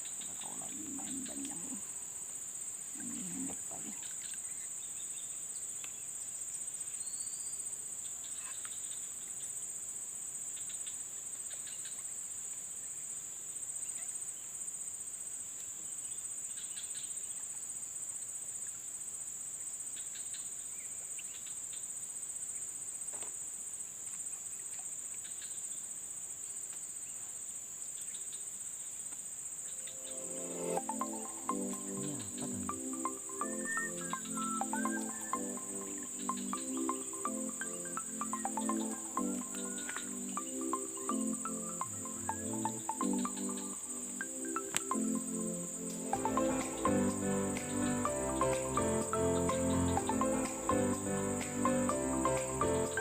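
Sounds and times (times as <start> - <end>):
faint insect chirps and ticks: 0.0 - 53.0
insects droning: 0.0 - 53.0.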